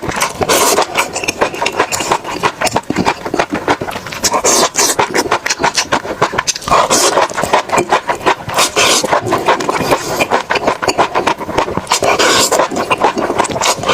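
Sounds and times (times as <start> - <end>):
crisp crunching and chewing: 0.0 - 13.9.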